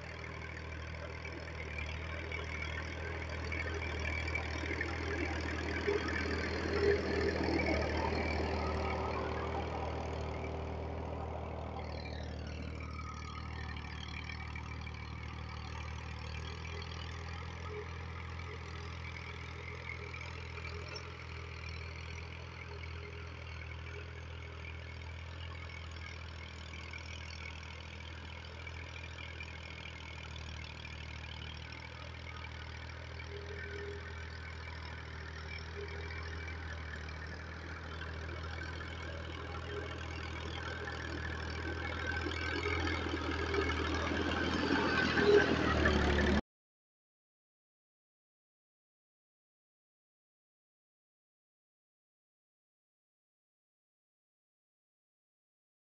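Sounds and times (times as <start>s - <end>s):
tractor diesel engine droning: 0.0s - 46.4s.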